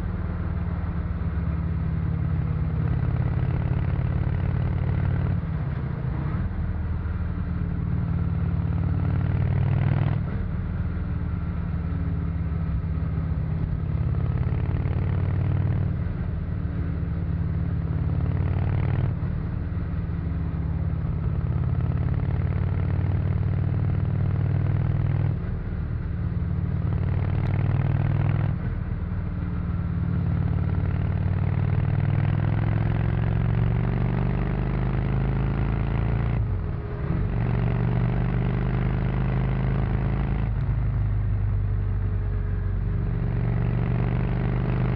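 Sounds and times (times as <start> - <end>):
motorcycle engine while riding: 0.0 - 44.9.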